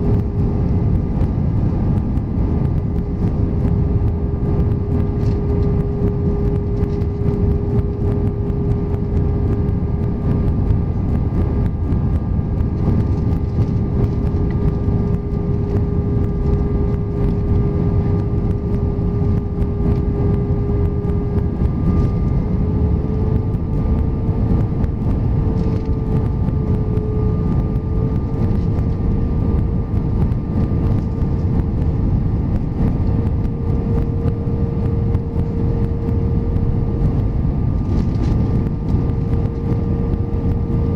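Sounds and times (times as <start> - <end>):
jet engine drone: 0.0 - 40.9
rushing airflow: 0.0 - 40.9.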